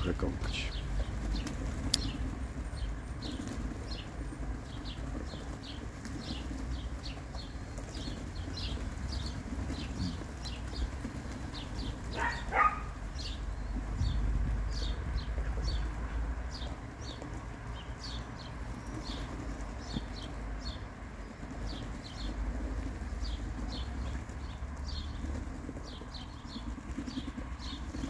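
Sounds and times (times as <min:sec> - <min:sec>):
louder pigeon call: 0:00.0 - 0:28.0
pigeon wings flapping: 0:00.9 - 0:20.6, 0:21.2 - 0:28.0.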